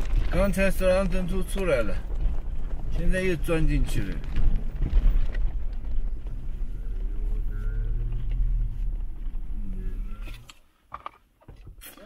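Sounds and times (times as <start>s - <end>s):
wind rumbling on microphone: 0.0s - 10.5s.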